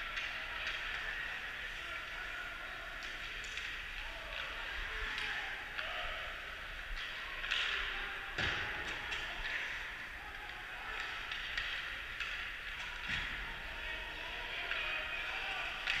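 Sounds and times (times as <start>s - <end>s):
hockey sticks and puck clicking: 0.0s - 2.2s, 2.8s - 13.5s, 14.1s - 16.0s.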